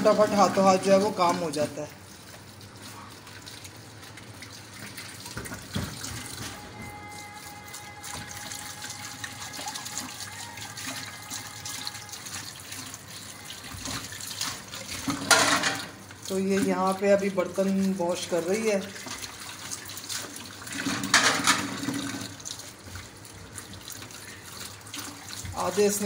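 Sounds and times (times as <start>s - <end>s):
plates being rinsed in sink: 0.0s - 26.0s
tap water running: 0.0s - 26.0s.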